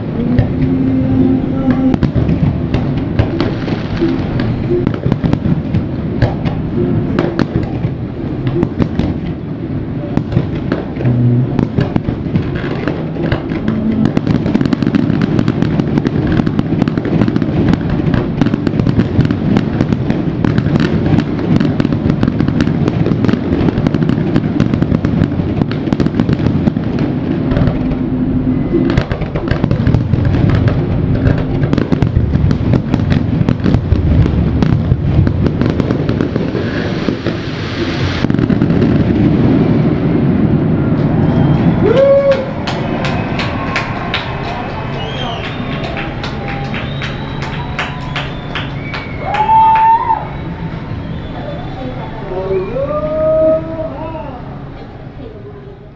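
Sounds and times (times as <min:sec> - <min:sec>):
heavy low rumble: 0:00.0 - 0:49.6
fireworks bursting: 0:00.0 - 0:52.7.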